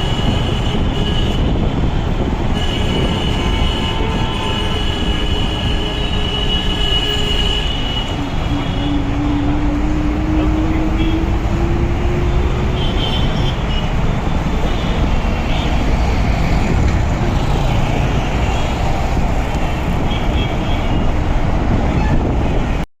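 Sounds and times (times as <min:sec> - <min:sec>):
vehicle travel rumble: 0:00.0 - 0:22.9.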